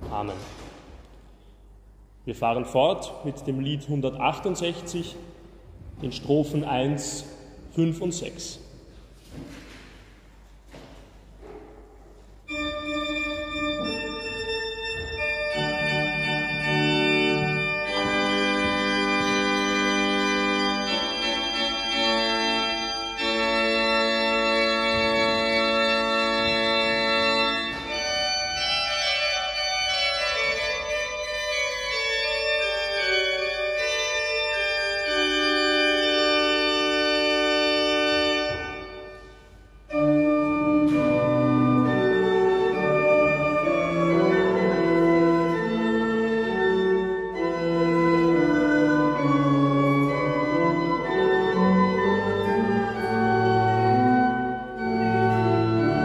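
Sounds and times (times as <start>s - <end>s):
church organ playing a hymn: 1.6s - 8.6s, 12.2s - 56.0s.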